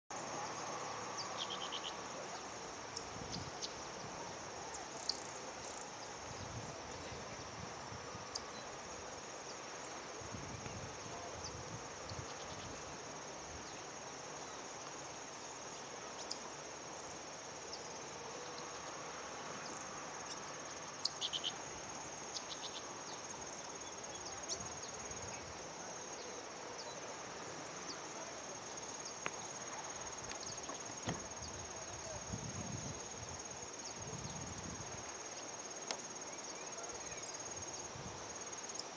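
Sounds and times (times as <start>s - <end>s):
high-pitched insect trill: 0.1s - 38.9s.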